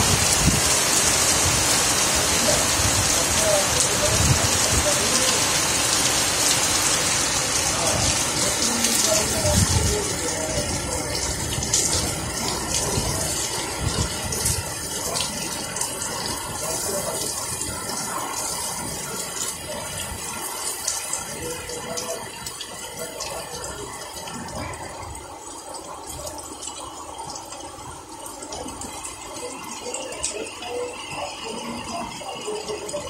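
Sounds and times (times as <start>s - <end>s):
heavy rain on wet street: 0.0s - 33.0s.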